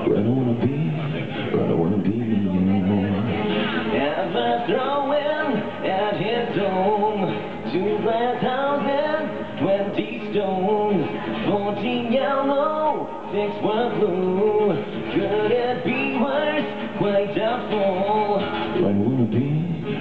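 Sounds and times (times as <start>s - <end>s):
amplified acoustic guitar: 0.0s - 20.0s
man singing: 0.0s - 20.0s.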